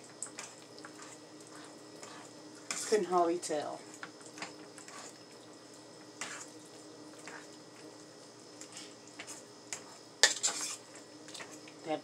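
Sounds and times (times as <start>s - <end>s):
faint steady hum: 0.0s - 12.0s
soft squishes of mashed potatoes: 0.1s - 3.1s, 3.8s - 11.8s.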